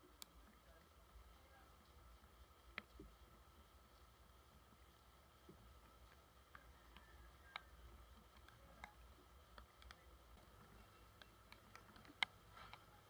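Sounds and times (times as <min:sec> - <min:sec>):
faint clicks: 0:00.0 - 0:01.0, 0:01.8 - 0:03.2, 0:04.8 - 0:13.0.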